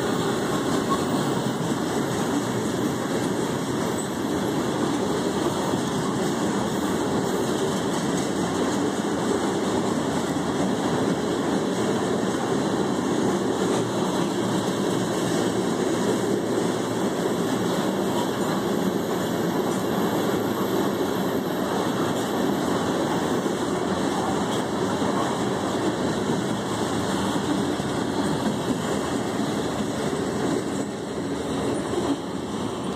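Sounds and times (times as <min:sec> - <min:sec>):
freight train wheels on rails: 0:00.0 - 0:32.9.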